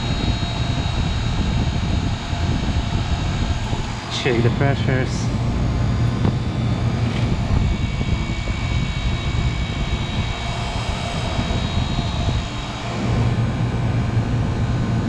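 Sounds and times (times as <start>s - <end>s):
condensing unit droning: 0.0s - 15.0s.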